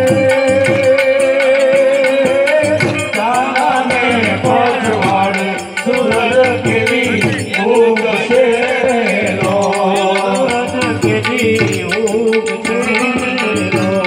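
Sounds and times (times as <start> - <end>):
percussion steady beat: 0.0 - 14.0.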